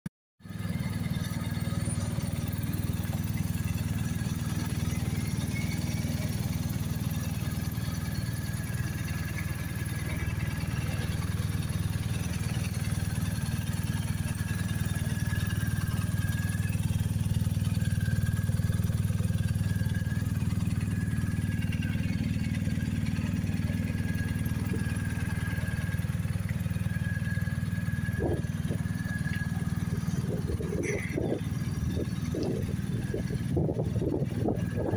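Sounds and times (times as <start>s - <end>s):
motorcycle engine idling: 0.4s - 34.9s.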